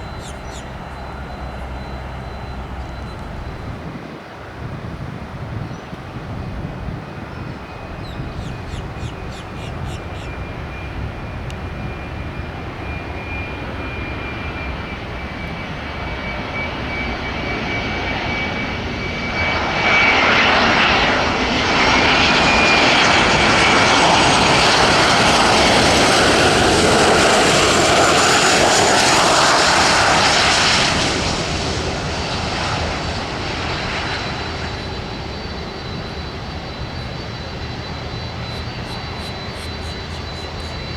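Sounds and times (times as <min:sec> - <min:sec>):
jet engines passing: 0:00.0 - 0:40.9.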